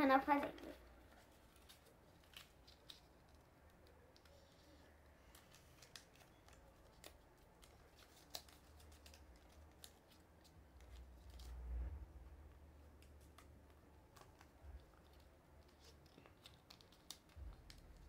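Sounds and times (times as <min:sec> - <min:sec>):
paper being folded and creased: 0:00.2 - 0:18.0.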